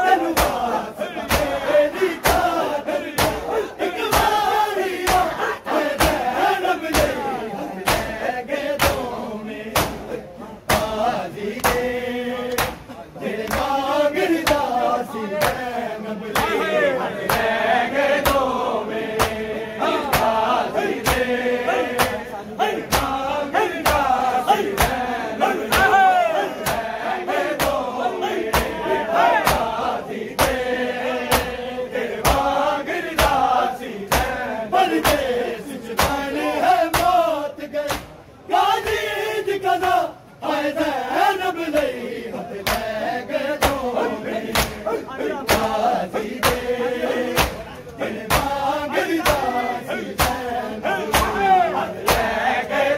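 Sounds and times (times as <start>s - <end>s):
hands slapping chests in unison: 0.0s - 38.2s, 41.7s - 42.0s, 42.6s - 52.8s
men chanting: 0.0s - 52.9s.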